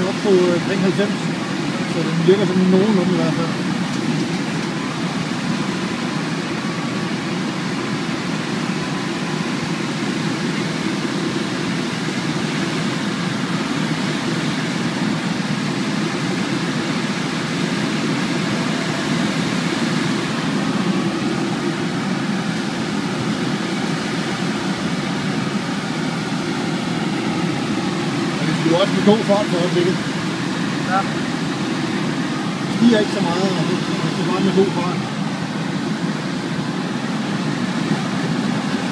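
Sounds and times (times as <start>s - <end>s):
rushing airflow in glider cockpit: 0.0s - 38.9s.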